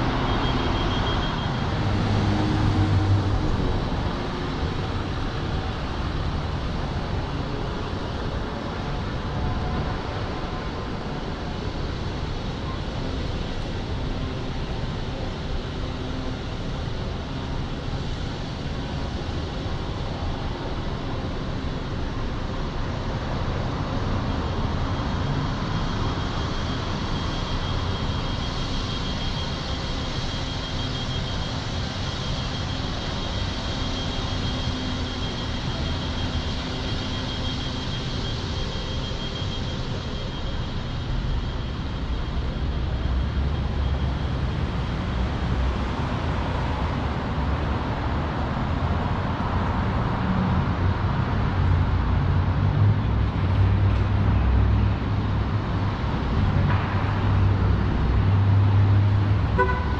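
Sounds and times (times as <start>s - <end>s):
city street traffic: 0.0s - 59.9s.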